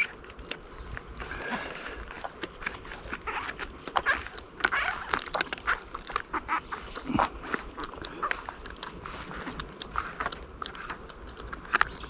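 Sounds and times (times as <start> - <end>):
mushrooms snapping and tearing: 0.0 - 12.0.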